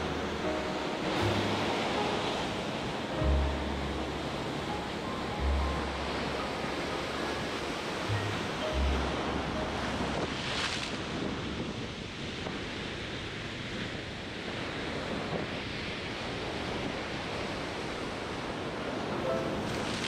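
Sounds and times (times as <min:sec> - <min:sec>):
sea waves breaking on shore: 0:00.0 - 0:20.0
wind buffeting microphone: 0:03.9 - 0:20.0.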